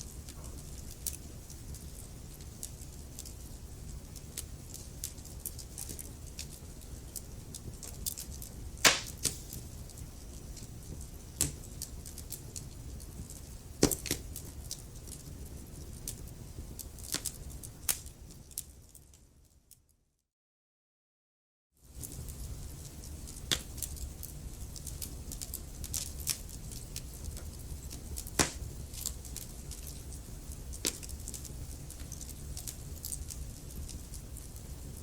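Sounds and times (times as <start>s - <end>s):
wood fire crackling: 0.0s - 19.4s, 21.8s - 35.0s.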